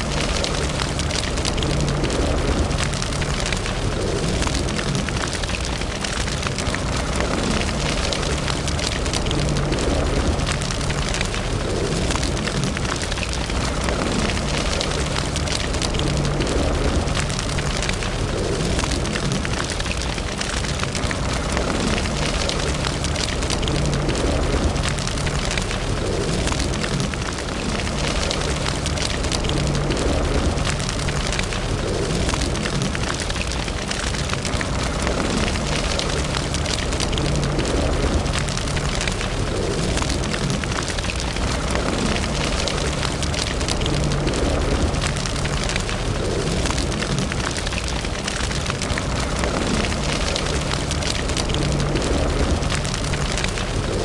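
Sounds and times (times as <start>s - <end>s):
low rumble: 0.0s - 54.0s
wood fire crackling and popping: 0.0s - 54.0s.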